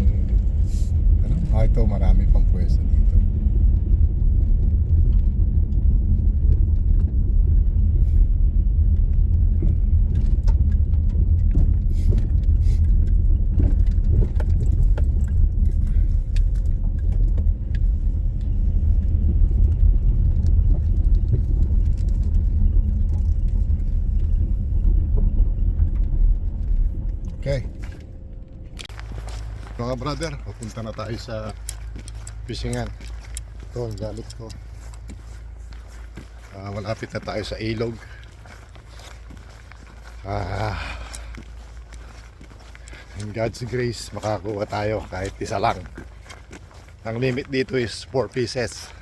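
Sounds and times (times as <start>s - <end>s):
car driving rumble: 0.0s - 49.0s
small clicks and rattles: 0.0s - 49.0s.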